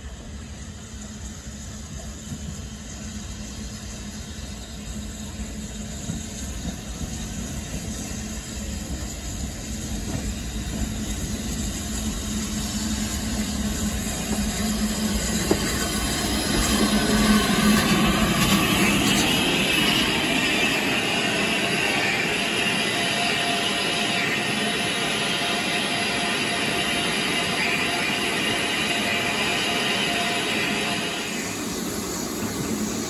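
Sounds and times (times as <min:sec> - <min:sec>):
steam hissing: 0:00.0 - 0:33.0
steam locomotive approaching: 0:00.0 - 0:33.0.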